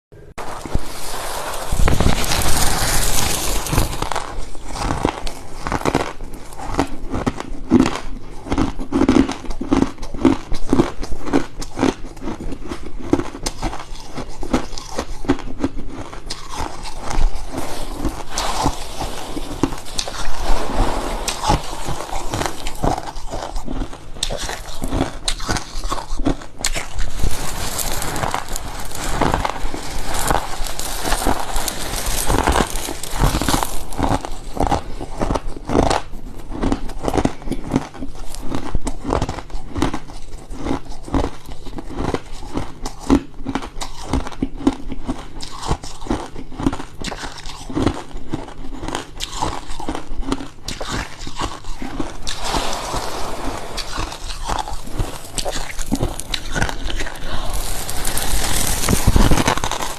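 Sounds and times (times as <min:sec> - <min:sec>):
crunchy chewing of frost: 0:00.4 - 0:59.9.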